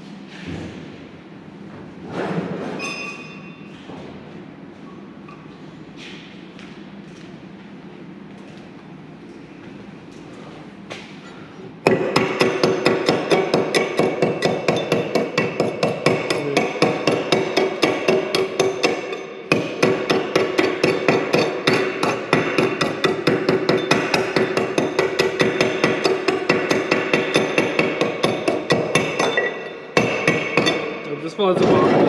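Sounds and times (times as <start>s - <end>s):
steady electrical buzz: 5.7s - 32.0s.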